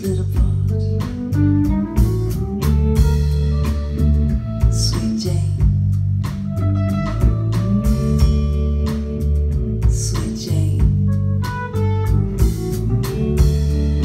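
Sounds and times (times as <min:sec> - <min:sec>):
bass guitar: 0:00.0 - 0:14.0
drum kit with cymbal hits: 0:00.0 - 0:14.0
plucked guitar lines: 0:00.0 - 0:14.0.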